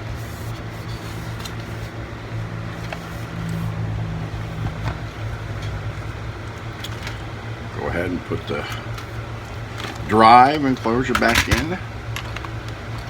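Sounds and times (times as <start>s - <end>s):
low hum of a fan: 0.0s - 13.0s.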